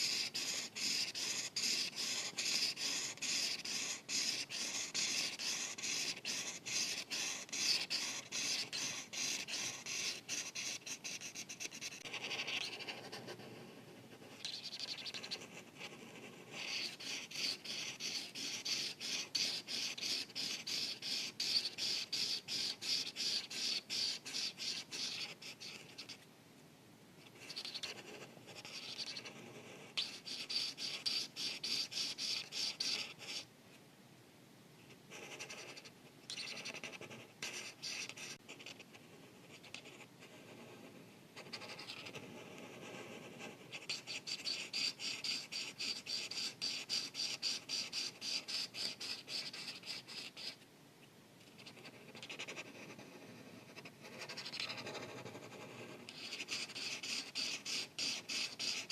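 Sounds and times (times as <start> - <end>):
marker scratching on paper: 0.0 - 26.2, 27.2 - 33.5, 35.1 - 50.6, 51.5 - 58.9.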